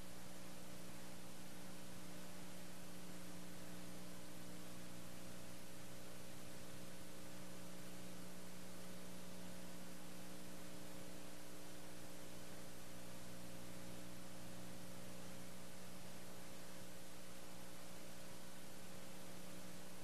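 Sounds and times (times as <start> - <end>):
constant hiss: 0.0 - 20.0
electrical mains hum: 0.0 - 20.0.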